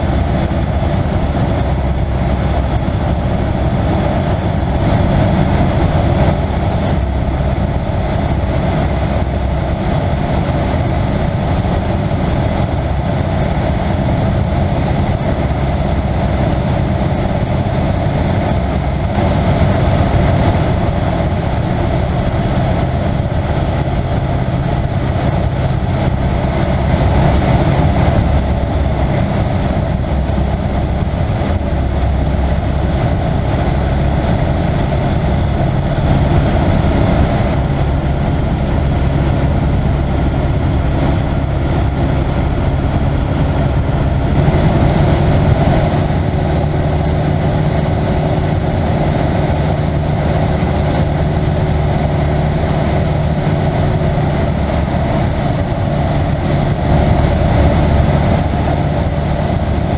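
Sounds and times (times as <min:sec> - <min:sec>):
airplane engine and propeller: 0:00.0 - 0:59.9.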